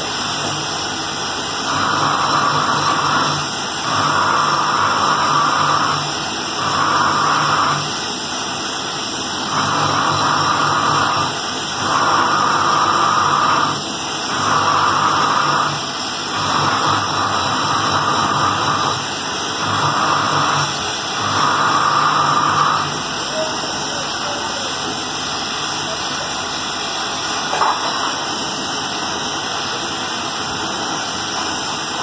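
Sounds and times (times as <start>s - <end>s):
welding torch flame hissing: 0.0s - 32.0s.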